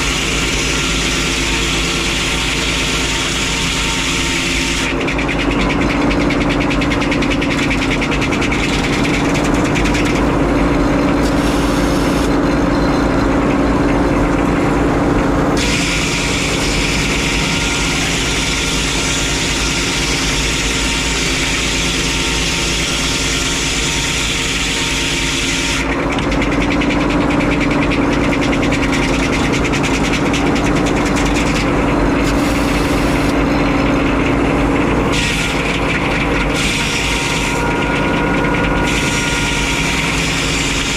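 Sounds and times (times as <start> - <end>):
sawmill engine hum: 0.0 - 40.9.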